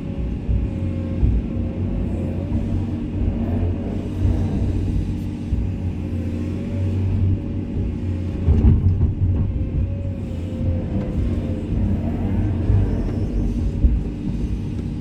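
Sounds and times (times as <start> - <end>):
excavator diesel engine rumble: 0.0 - 15.0.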